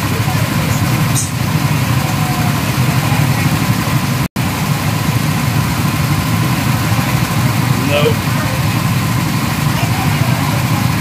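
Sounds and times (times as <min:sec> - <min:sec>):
go-kart engines idling: 0:00.0 - 0:11.0.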